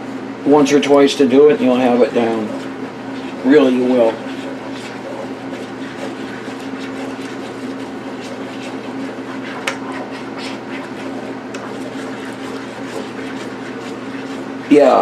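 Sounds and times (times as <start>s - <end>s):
steady hum: 0.0s - 15.0s
gravy cooking in a pan: 2.3s - 15.0s.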